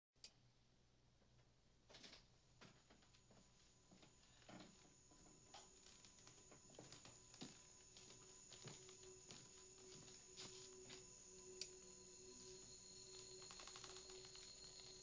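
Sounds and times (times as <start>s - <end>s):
faint held tone: 3.0s - 15.0s.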